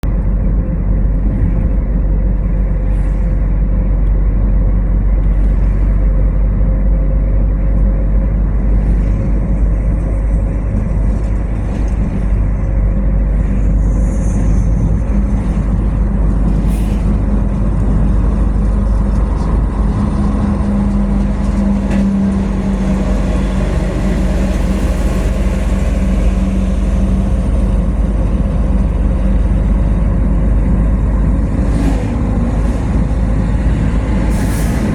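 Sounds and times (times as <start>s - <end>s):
car road noise rumble: 0.0s - 34.9s.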